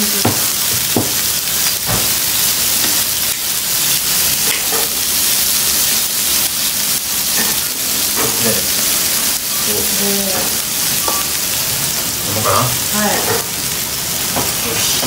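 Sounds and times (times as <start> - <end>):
steak sizzling: 0.0 - 15.0.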